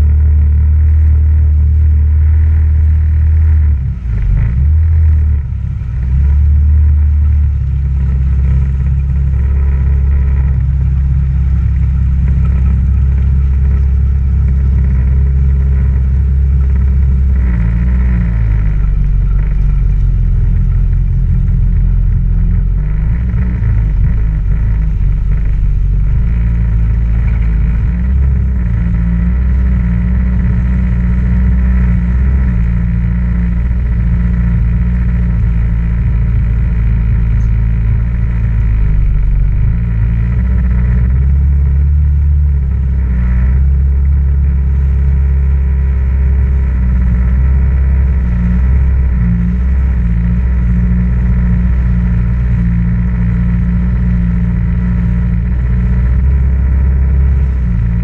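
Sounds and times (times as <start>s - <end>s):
watercraft engine running: 0.0s - 58.0s.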